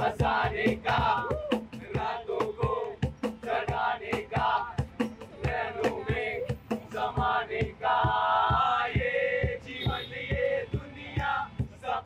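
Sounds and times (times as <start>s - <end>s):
men singing and chanting: 0.0s - 12.0s.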